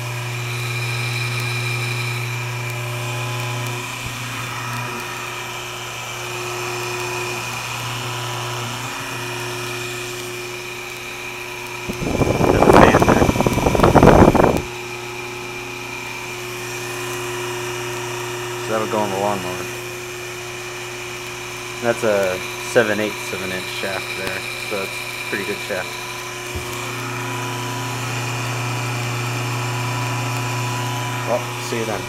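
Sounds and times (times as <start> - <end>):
electric motor humming: 0.0 - 32.0.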